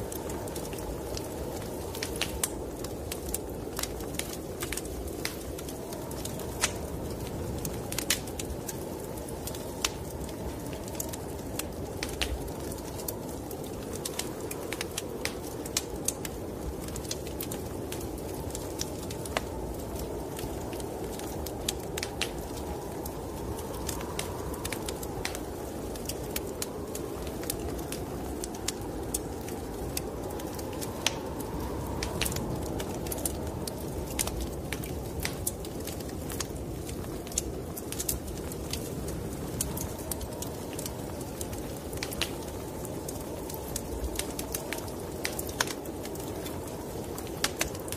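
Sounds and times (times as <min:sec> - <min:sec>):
snowstorm wind rushing: 0:00.0 - 0:47.9
wood fire crackling and popping: 0:00.0 - 0:47.9.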